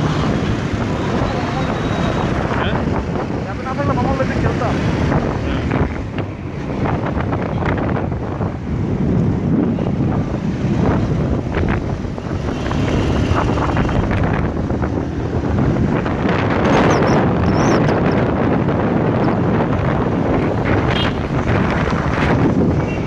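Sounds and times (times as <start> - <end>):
motorcycle engine and road noise: 0.0 - 23.0
wind buffeting microphone: 0.0 - 23.0.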